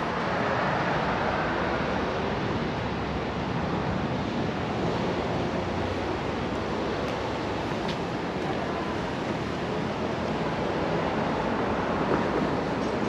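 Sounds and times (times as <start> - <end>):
street traffic hiss: 0.0 - 13.0.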